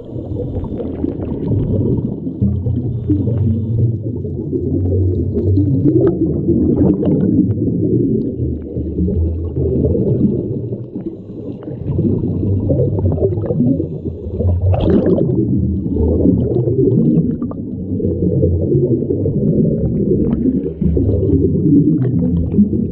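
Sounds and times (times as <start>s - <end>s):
muffled underwater rumble: 0.0s - 22.9s.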